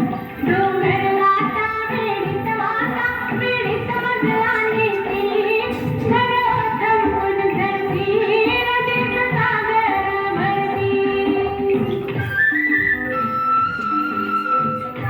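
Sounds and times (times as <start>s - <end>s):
indian-style instrumental music: 0.0s - 15.0s
woman singing: 0.0s - 15.0s.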